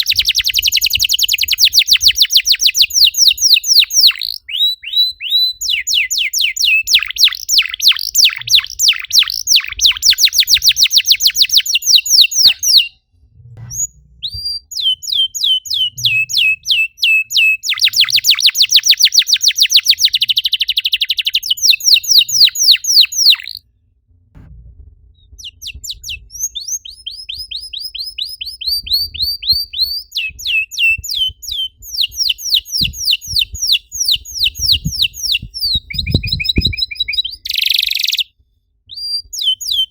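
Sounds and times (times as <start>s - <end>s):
canary singing: 0.0s - 13.0s, 13.6s - 23.6s, 25.3s - 39.9s.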